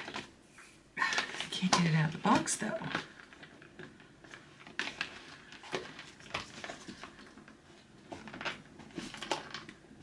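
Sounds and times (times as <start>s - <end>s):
packaging rustling: 1.0s - 10.0s.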